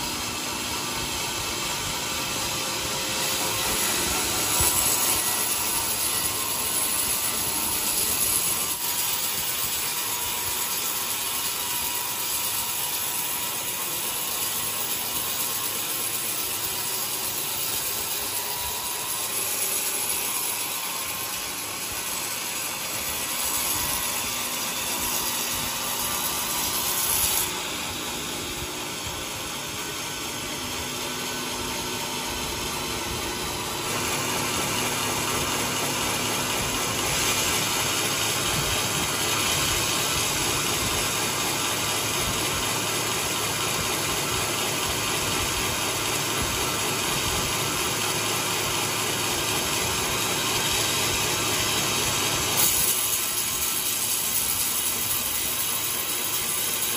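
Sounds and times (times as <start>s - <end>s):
sawmill sawing a log: 0.0s - 56.9s.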